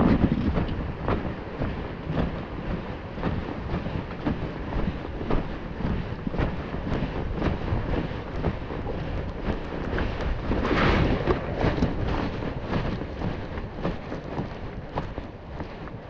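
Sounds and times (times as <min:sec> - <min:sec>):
water splashing against kayak: 0:00.0 - 0:16.0
wind buffeting microphone: 0:00.0 - 0:16.0.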